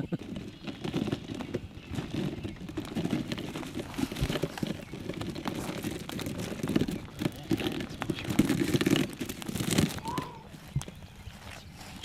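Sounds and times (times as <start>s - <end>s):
crunching footsteps: 0.0s - 12.0s
rustling: 0.0s - 12.0s.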